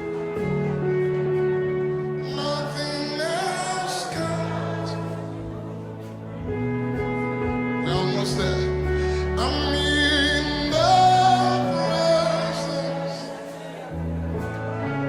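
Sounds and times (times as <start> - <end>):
sustained keyboard chords: 0.0 - 15.0
wordless vocals: 2.1 - 6.7, 7.5 - 15.0.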